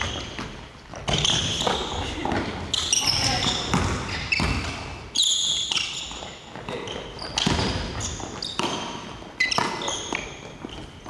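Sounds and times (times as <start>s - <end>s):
basketball bouncing on gym floor: 0.0s - 11.0s
sneakers squeaking: 0.0s - 11.0s.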